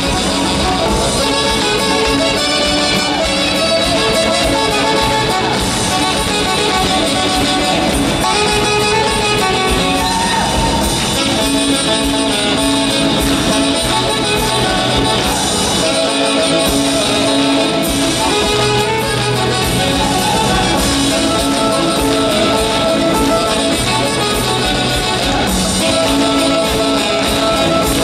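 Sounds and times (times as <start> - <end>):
live band dance music: 0.0 - 28.0
wind instruments: 0.0 - 28.0.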